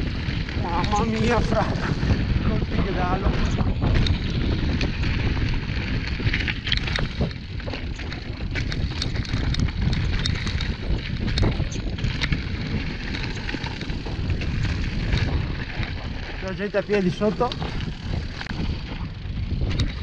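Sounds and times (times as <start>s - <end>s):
bike rattling and clicking: 0.0s - 20.0s
wind buffeting microphone: 0.0s - 20.0s
tyres crunching over gravel: 0.5s - 20.0s.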